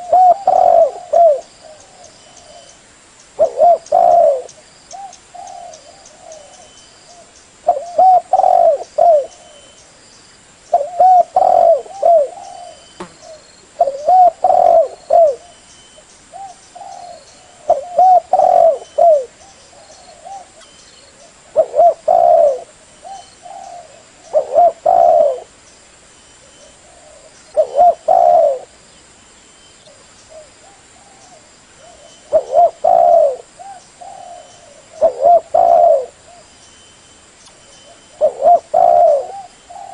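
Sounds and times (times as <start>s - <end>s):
dove cooing: 0.0s - 2.7s, 3.4s - 9.7s, 10.7s - 15.6s, 16.3s - 25.5s, 26.5s - 28.8s, 29.9s - 36.5s, 37.9s - 39.9s.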